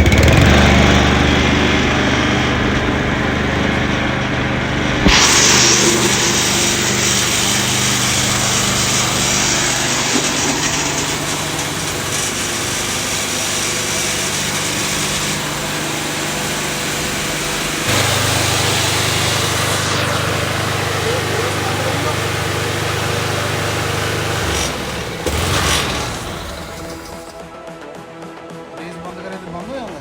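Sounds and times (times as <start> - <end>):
lawn mower engine running: 0.0 - 27.6.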